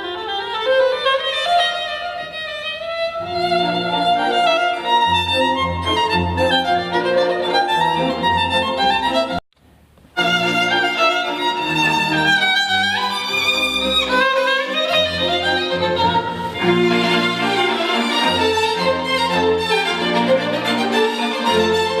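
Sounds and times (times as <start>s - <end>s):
violin music through a speaker: 0.0s - 9.4s, 10.2s - 22.0s.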